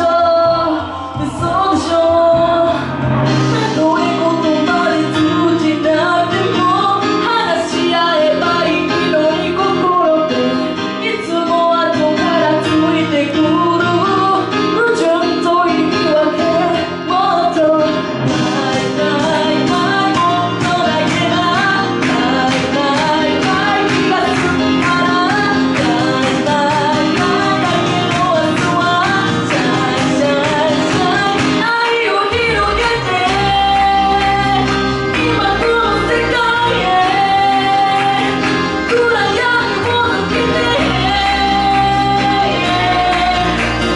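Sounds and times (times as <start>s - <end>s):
amplified backing music: 0.0s - 43.9s
woman singing into a microphone: 0.0s - 43.9s.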